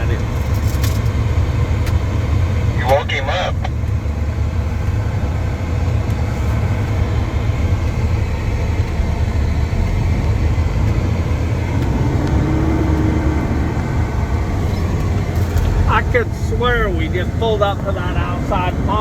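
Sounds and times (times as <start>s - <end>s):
truck diesel engine rumbling: 0.0s - 19.0s.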